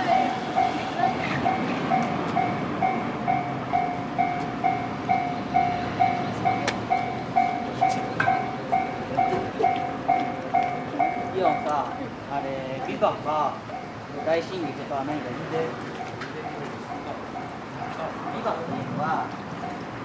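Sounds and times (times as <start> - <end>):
level-crossing bell dinging: 0.0 - 20.0.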